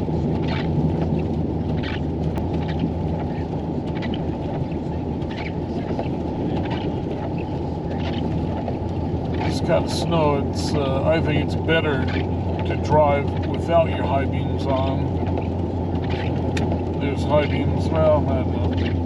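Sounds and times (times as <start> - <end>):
road rumble: 0.0 - 19.0
truck engine hum: 0.0 - 19.0.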